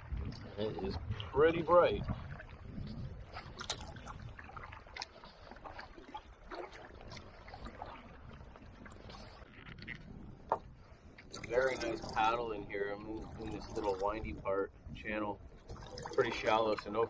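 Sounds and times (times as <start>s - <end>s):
paddle splashing in water: 0.0s - 14.2s, 15.5s - 17.0s.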